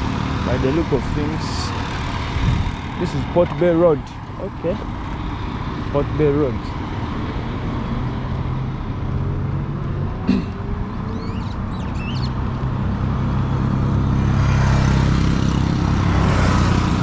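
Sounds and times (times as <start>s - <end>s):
approaching traffic: 0.0s - 17.0s
vehicle engine running: 0.0s - 17.0s.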